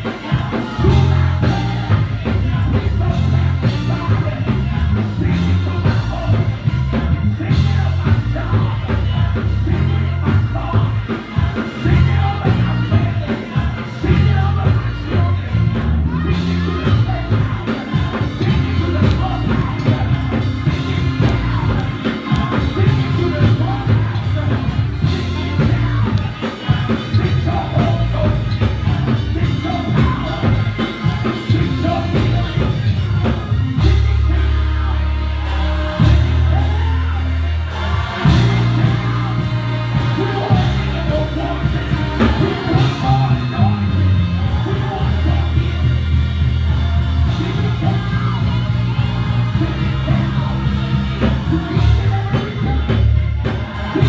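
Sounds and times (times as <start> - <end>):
band playing worship music: 0.0 - 54.0
congregation shouting and whooping: 0.0 - 54.0
people singing: 0.0 - 54.0.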